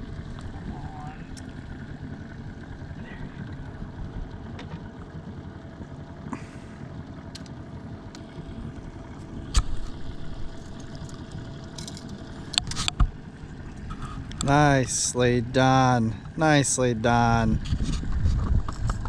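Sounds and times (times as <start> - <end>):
knocks and clatters on boat: 0.0 - 6.3, 7.0 - 14.5, 17.5 - 19.0
outboard boat motor idling: 0.0 - 19.0.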